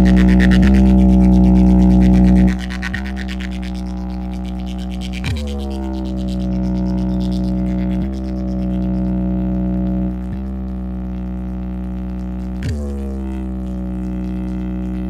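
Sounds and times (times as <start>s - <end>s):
buzzy bass drone: 0.0s - 15.0s
falling pitch sweep: 0.0s - 15.0s.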